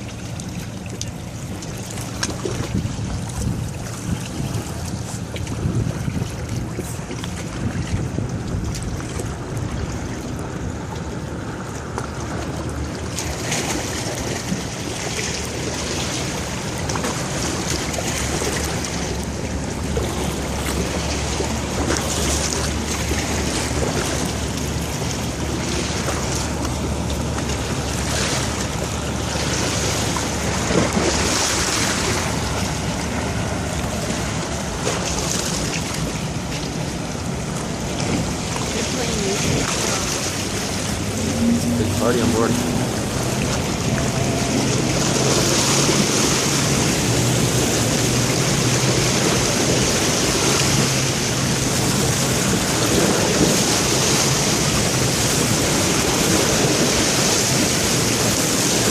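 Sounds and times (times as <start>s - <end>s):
low steady rumble: 0.0s - 58.9s
water wash: 0.0s - 58.9s
wind buffeting microphone: 2.3s - 58.9s.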